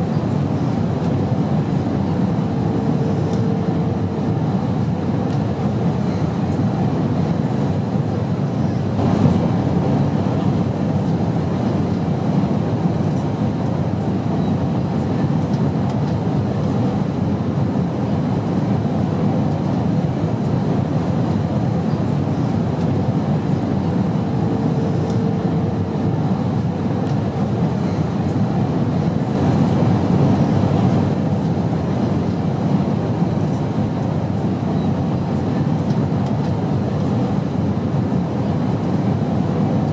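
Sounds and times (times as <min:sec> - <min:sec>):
airplane droning: 0:00.0 - 0:39.9.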